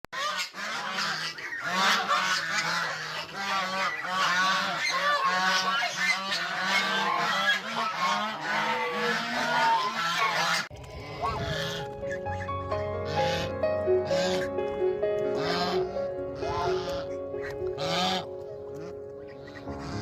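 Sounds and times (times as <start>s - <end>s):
geese honking: 0.2s - 20.0s.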